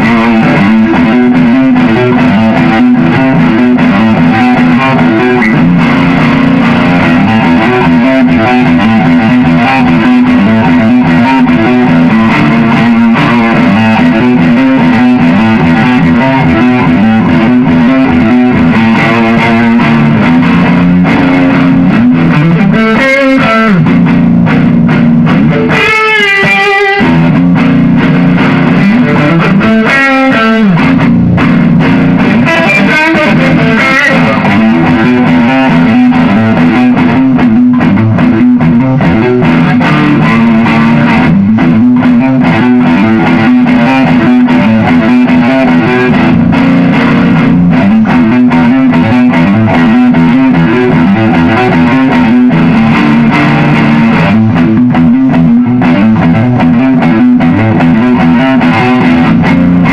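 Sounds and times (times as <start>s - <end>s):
electric guitar: 0.0s - 59.9s.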